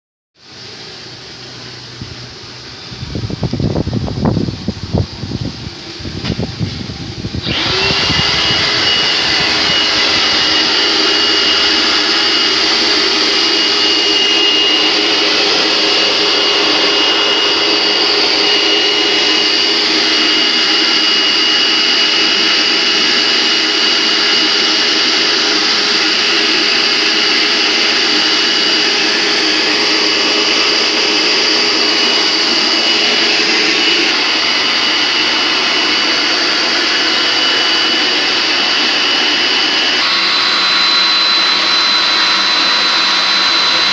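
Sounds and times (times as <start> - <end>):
electric motor running: 6.0 - 43.9.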